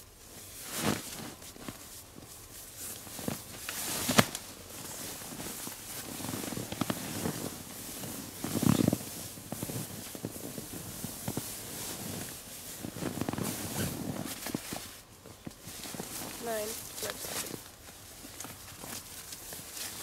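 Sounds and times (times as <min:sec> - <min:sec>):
sleeping bag fabric rustling: 0:00.0 - 0:20.0
small crinkles and knocks: 0:00.2 - 0:20.0.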